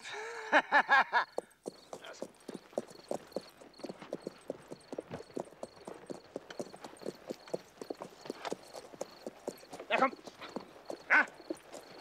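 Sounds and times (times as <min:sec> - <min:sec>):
horses hooves walking: 0:00.5 - 0:12.0.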